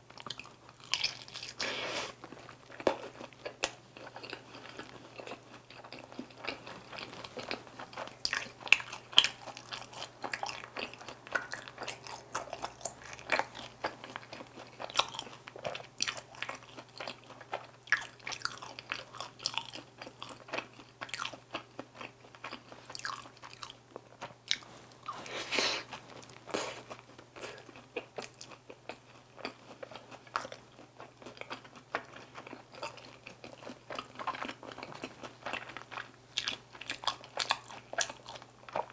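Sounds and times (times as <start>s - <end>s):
wet chewing: 0.1s - 38.9s.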